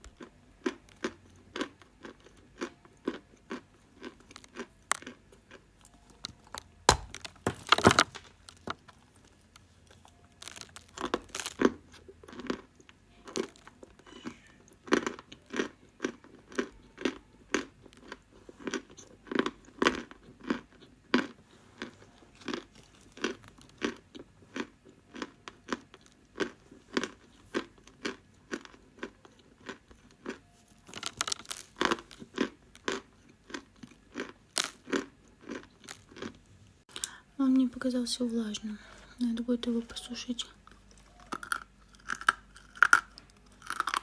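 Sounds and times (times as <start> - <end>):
crunchy chewing: 0.0 - 37.1, 40.6 - 44.0.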